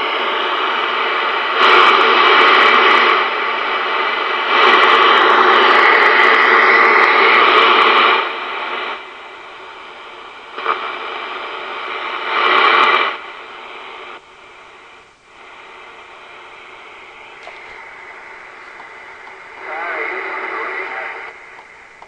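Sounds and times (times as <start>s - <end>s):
radio static and hiss: 0.0s - 22.0s.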